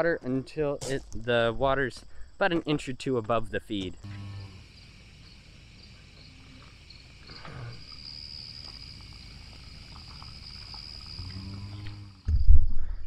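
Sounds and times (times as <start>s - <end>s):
insects trilling: 0.2s - 12.4s.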